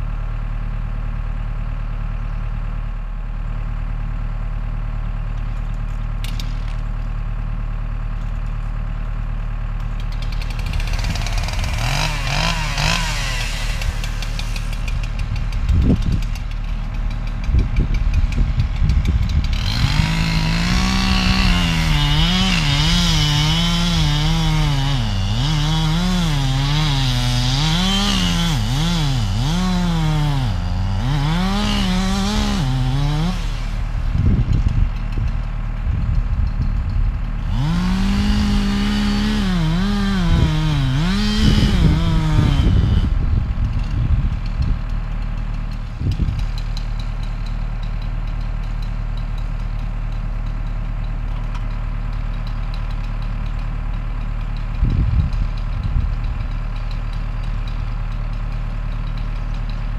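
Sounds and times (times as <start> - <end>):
low engine hum: 0.0 - 59.9
chainsaw cutting wood: 5.7 - 7.1, 9.7 - 59.9.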